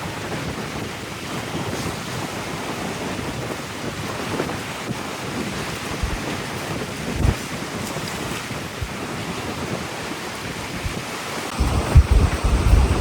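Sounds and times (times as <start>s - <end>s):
ocean waves washing: 0.0s - 13.0s
wind gusting across microphone: 0.0s - 13.0s.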